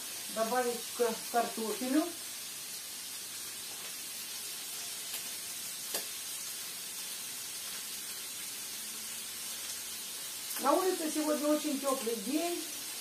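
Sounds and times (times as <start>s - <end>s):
ribs sizzling in oil: 0.0s - 13.0s.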